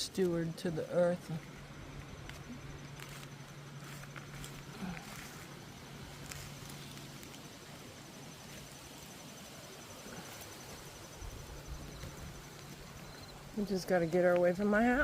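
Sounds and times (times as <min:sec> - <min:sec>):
high fast-pulsing insect call: 0:00.0 - 0:15.0
steady low hum: 0:00.0 - 0:15.0.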